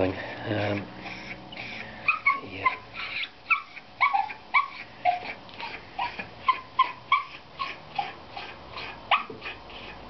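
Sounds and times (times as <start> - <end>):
dog whining and yipping: 0.7 - 10.0.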